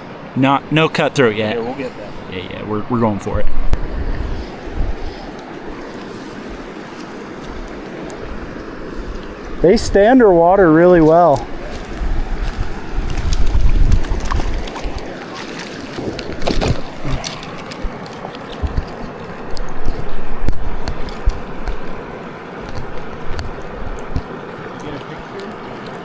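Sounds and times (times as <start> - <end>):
wind buffeting microphone: 0.0 - 15.3, 15.9 - 25.0
stream water rushing: 0.0 - 26.0.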